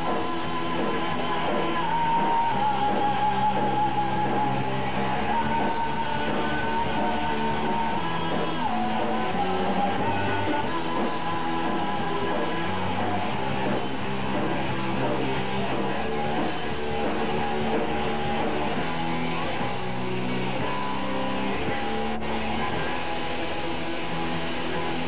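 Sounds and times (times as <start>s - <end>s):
drum kit: 0.0s - 25.0s
electric guitars: 0.0s - 25.0s.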